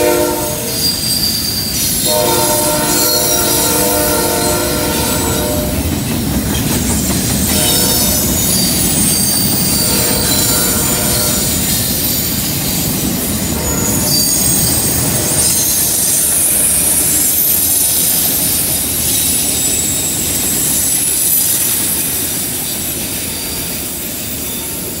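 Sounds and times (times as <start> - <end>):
wheels squealing: 0.0 - 5.7, 6.5 - 25.0
train wheels rumbling on rail: 0.0 - 25.0.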